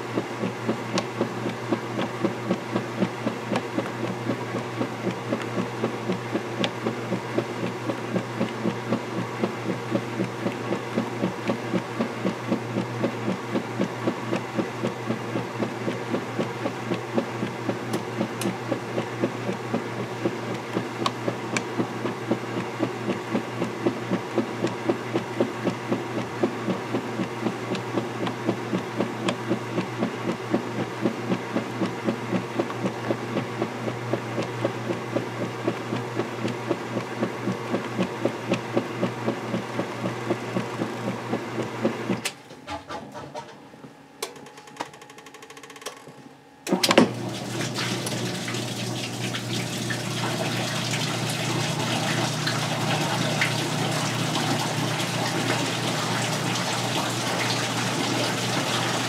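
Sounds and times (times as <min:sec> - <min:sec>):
washing machine agitating: 0:00.0 - 0:43.7, 0:46.7 - 0:59.0.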